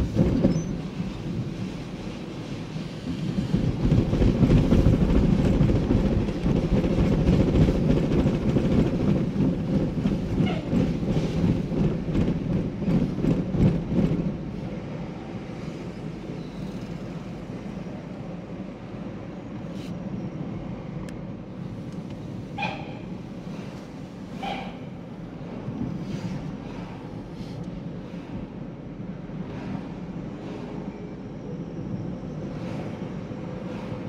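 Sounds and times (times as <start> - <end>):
road noise inside car: 0.0 - 34.0.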